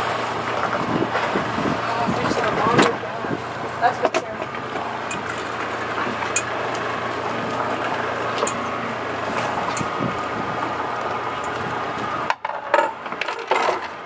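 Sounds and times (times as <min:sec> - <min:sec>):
boat engine idling: 0:00.0 - 0:14.0
clicks and knocks of line hauling: 0:00.4 - 0:14.0.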